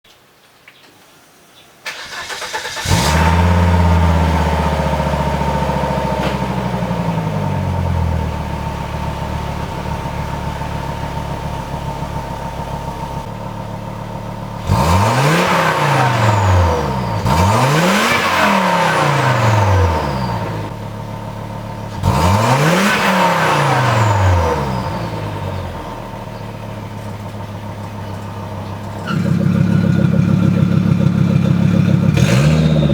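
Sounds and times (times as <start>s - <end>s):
car engine revving and idling: 2.0s - 32.9s.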